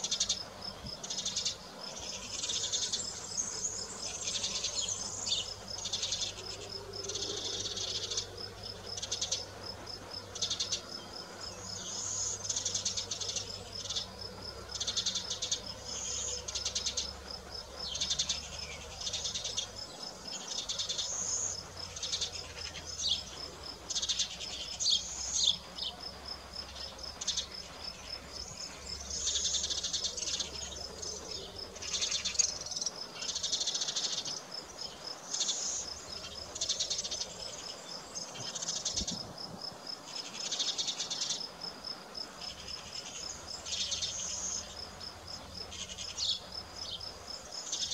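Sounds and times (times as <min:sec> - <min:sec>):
insect high trill: 0:00.0 - 0:39.2
insects buzzy chirps: 0:00.0 - 0:47.9.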